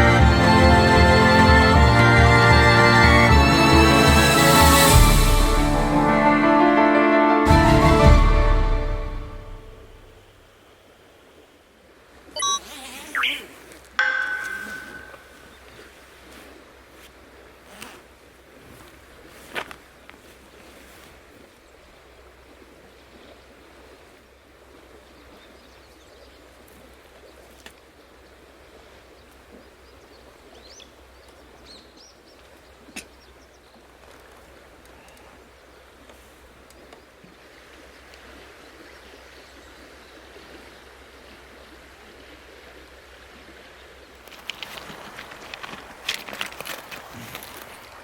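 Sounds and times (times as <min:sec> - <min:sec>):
faint outdoor hiss: 0:08.7 - 0:48.0.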